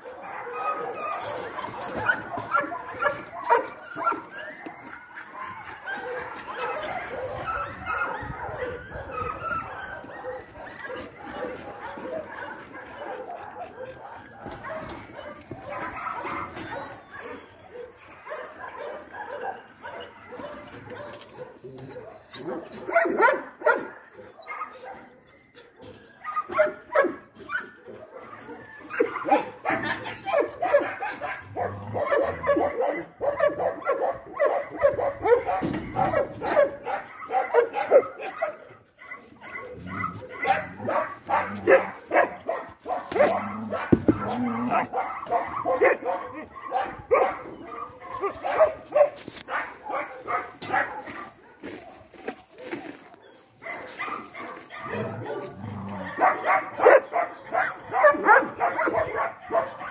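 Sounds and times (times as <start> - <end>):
dogs barking: 0.0 - 59.9.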